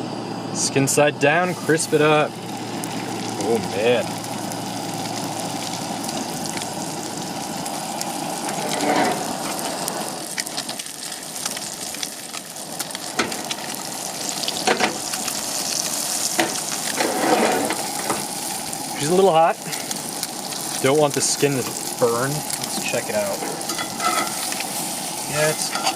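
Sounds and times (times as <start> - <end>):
fish sizzling in a skillet: 1.6 - 25.9
oil popping and crackling: 2.3 - 25.9.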